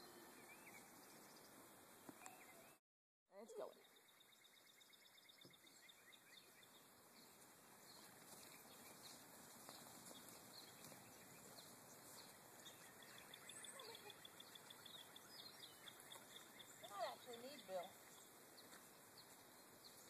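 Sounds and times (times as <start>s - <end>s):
faint outdoor hiss: 0.0s - 20.0s
faint bird chirps: 2.2s - 2.8s, 3.4s - 20.0s.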